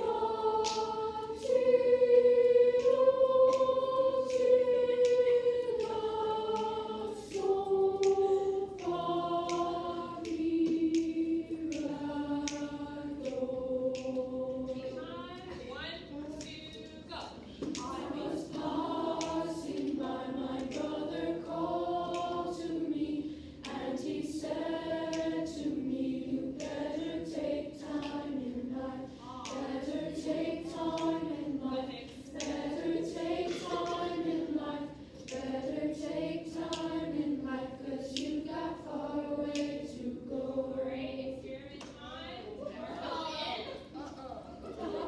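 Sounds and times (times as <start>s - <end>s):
choir singing: 0.0s - 15.6s, 17.6s - 44.0s, 44.7s - 45.0s.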